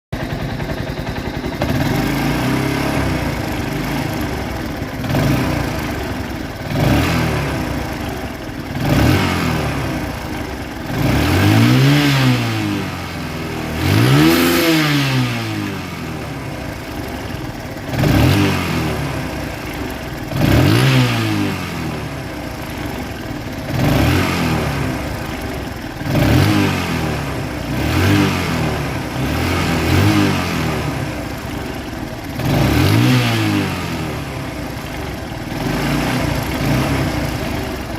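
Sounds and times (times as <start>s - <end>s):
motorcycle engine idling: 0.2s - 37.9s.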